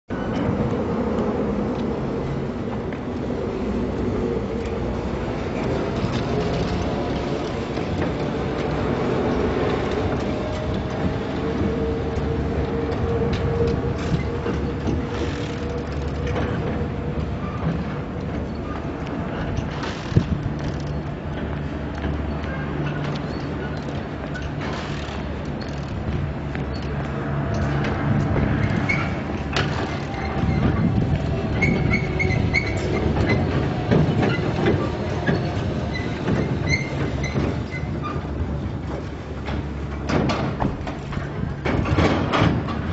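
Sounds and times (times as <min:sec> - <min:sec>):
carriages clanking and rattling: 0:00.1 - 0:42.9
road train rumbling past: 0:00.1 - 0:42.9.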